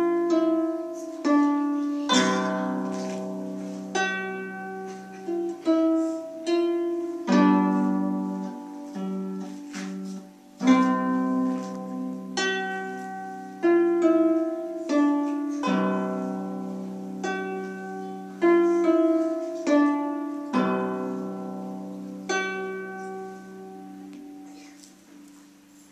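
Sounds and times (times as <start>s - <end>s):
harp played solo: 0.0s - 24.8s.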